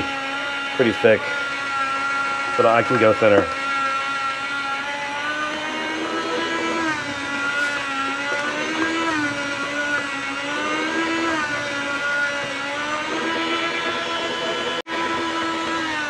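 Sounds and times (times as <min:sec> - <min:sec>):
meat slicer motor whine: 0:00.0 - 0:16.0.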